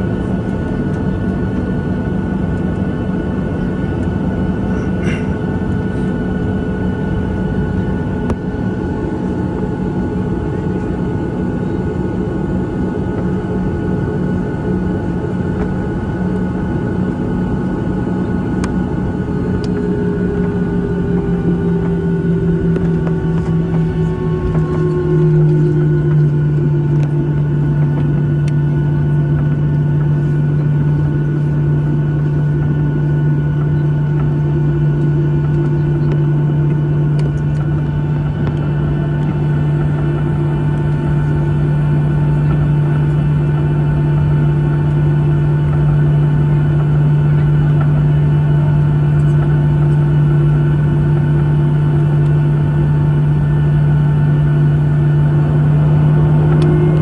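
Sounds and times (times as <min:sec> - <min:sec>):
jet engine hum in cabin: 0:00.0 - 0:57.0.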